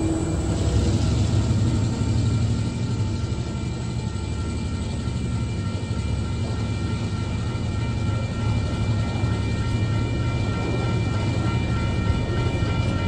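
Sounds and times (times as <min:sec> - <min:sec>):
high ringing: 0:00.0 - 0:13.0
train wheels rumbling on rails: 0:00.0 - 0:13.0.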